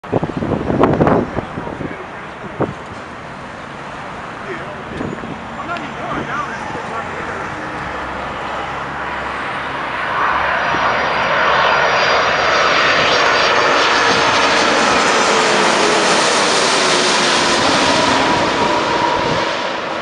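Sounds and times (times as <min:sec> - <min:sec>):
jet plane passing overhead: 0:00.1 - 0:20.0.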